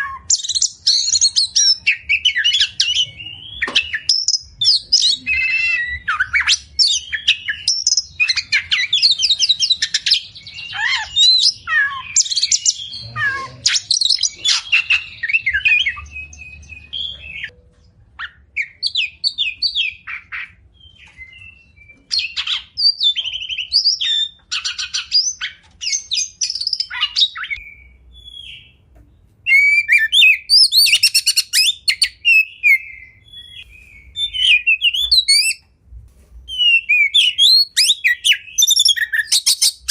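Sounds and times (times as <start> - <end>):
bird singing whistles and trills: 0.0 - 17.6, 18.2 - 28.8, 29.4 - 35.6, 36.5 - 39.9.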